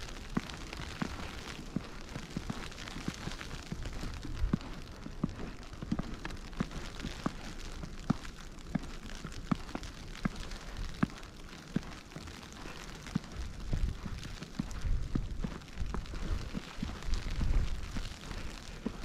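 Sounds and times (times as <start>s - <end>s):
blizzard wind rumbling: 0.0s - 19.0s
footsteps crunching through snow: 0.0s - 19.0s
small irregular ticks: 0.0s - 19.0s.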